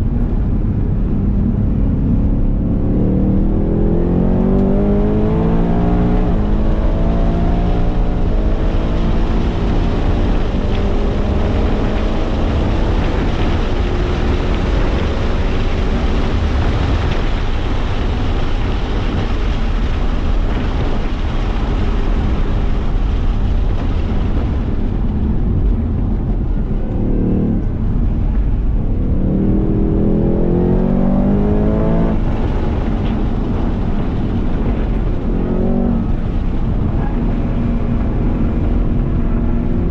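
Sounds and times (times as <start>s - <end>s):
wind and tyre noise: 0.0s - 39.9s
car engine revving: 1.2s - 39.9s.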